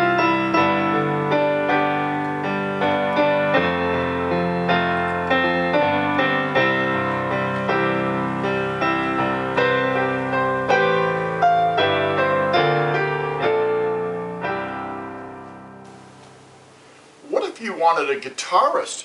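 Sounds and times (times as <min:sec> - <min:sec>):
electronic keyboard piano melody: 0:00.0 - 0:16.9.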